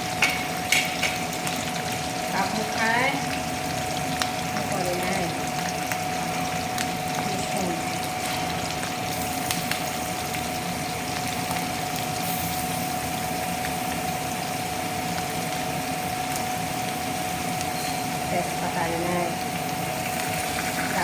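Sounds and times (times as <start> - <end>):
curry sizzling in a pan: 0.0 - 21.0.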